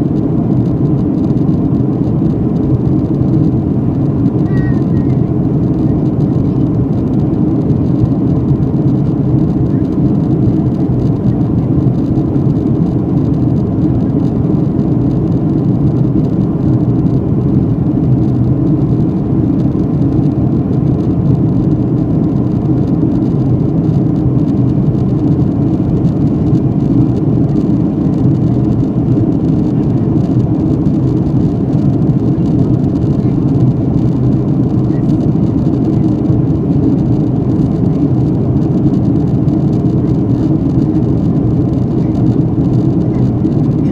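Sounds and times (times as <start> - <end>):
airliner cabin engine roar: 0.0 - 43.9.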